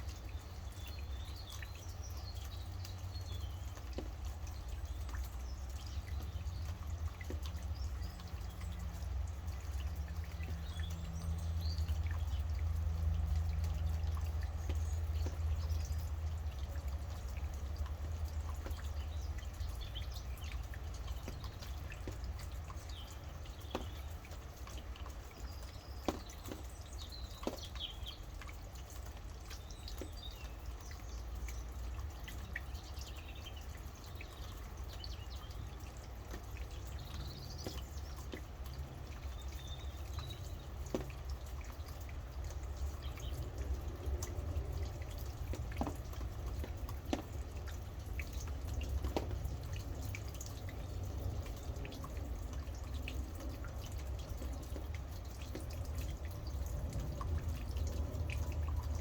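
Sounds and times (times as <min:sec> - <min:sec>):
birds chirping: 0:00.0 - 0:59.0
steady rain: 0:00.0 - 0:59.0.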